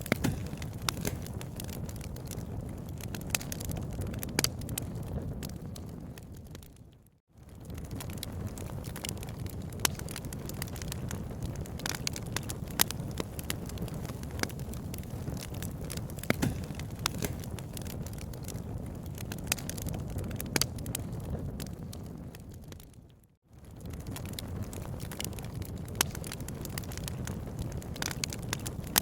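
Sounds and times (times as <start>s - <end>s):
fire popping and snapping: 0.0s - 29.0s
low fire rumble: 0.0s - 29.0s
wood fire crackling: 0.0s - 29.0s.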